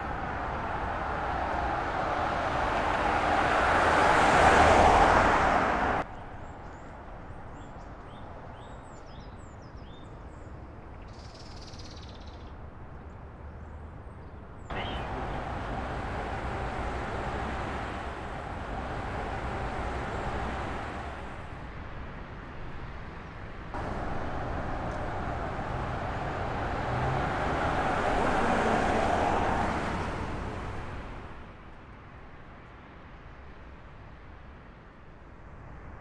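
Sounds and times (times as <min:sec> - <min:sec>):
car and tyre noise: 0:00.0 - 0:11.1, 0:14.7 - 0:36.0.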